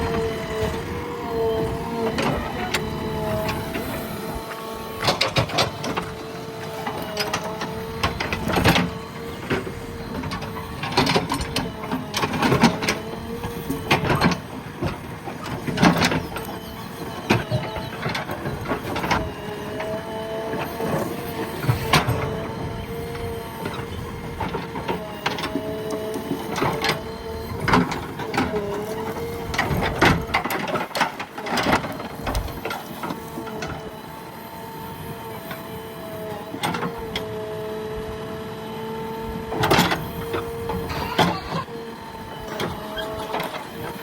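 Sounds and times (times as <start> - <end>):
engine and hydraulic whine: 0.0 - 44.0.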